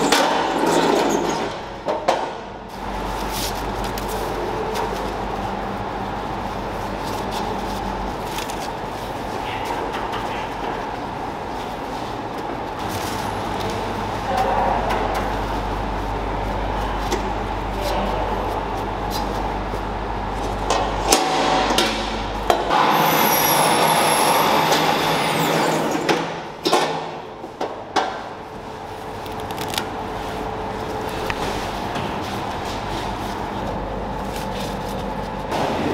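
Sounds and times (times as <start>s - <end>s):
factory machinery running: 0.0s - 35.9s.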